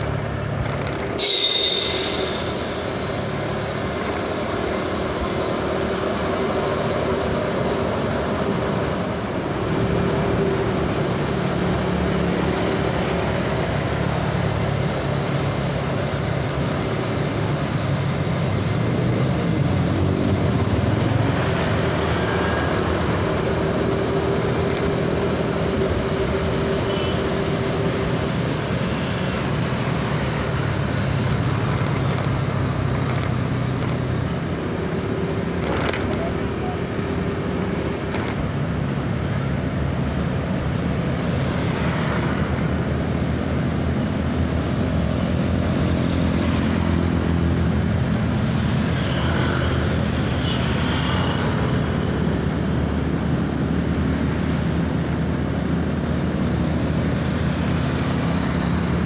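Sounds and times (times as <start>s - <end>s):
traffic engine and road noise: 0.0s - 59.0s.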